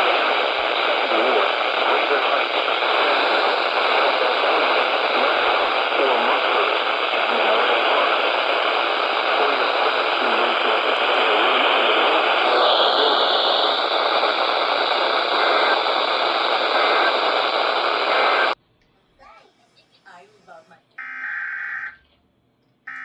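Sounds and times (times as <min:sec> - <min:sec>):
radio static hiss: 0:00.0 - 0:18.6
faint voice: 0:00.0 - 0:21.0.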